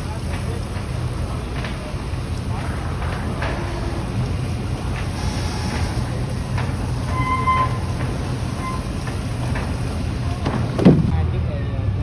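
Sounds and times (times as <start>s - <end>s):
machinery rumbling: 0.0s - 11.5s.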